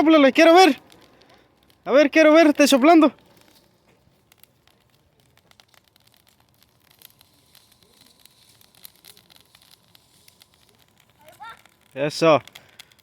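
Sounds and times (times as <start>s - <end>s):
bonfire crackling and snapping: 0.0s - 13.0s.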